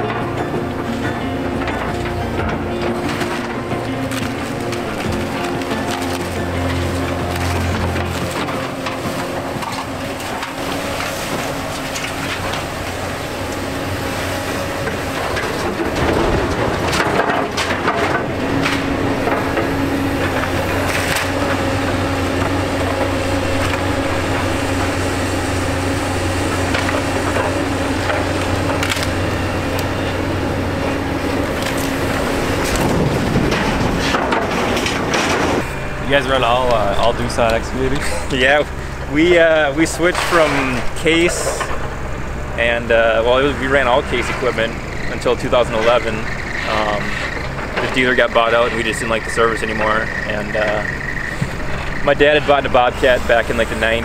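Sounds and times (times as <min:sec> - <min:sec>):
diesel engine running: 0:00.0 - 0:54.0
wood cracking and splintering: 0:00.0 - 0:54.0.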